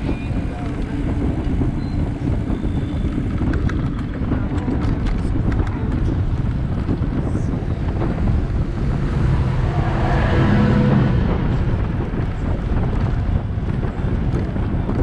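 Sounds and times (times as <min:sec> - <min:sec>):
deep rumble of riding: 0:00.0 - 0:15.0
wind buffeting microphone: 0:00.0 - 0:15.0.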